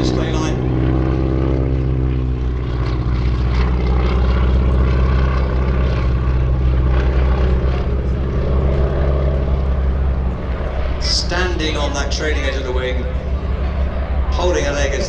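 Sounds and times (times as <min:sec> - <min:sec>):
biplane engine droning: 0:00.0 - 0:15.0.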